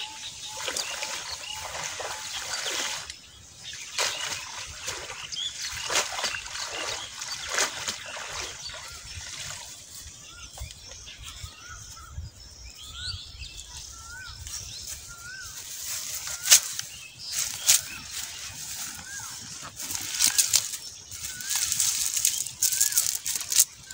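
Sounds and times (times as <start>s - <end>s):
water splashing and trickling: 0.0s - 11.6s, 14.5s - 23.9s.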